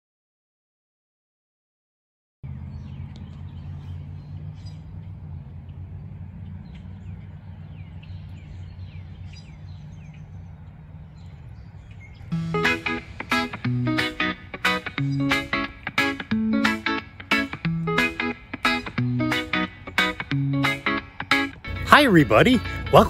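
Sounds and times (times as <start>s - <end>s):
small birds chirping: 2.4s - 23.0s
steady low rumble: 2.4s - 23.0s.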